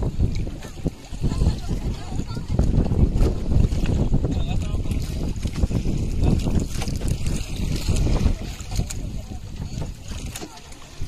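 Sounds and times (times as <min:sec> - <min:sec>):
water washing along boat hull: 0:00.0 - 0:11.0
wind buffeting microphone: 0:00.0 - 0:11.0.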